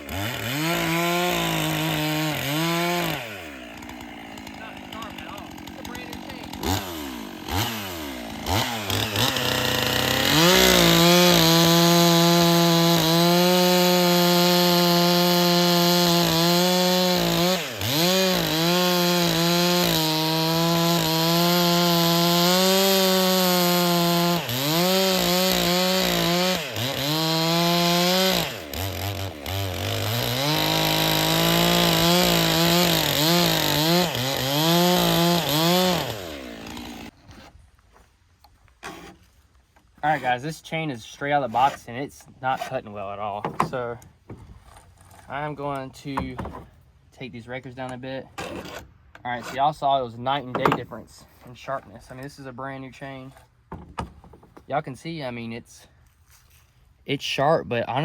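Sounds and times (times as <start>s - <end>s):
chainsaw cutting wood: 0.0s - 37.6s, 38.8s - 46.8s, 47.6s - 51.2s, 53.0s - 54.7s.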